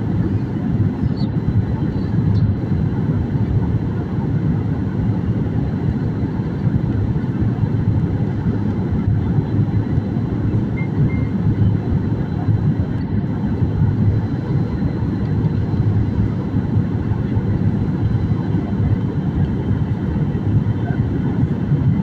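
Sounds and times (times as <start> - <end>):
airliner cabin engine noise: 0.0 - 22.0.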